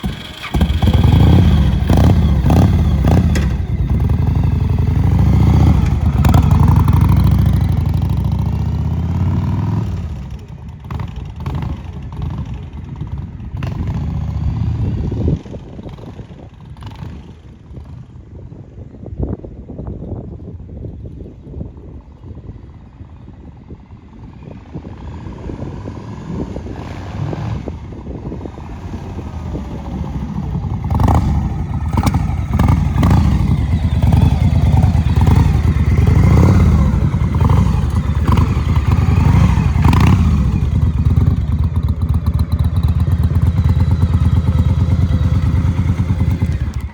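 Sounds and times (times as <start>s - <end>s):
motorcycle engine rumbling: 0.0s - 46.9s.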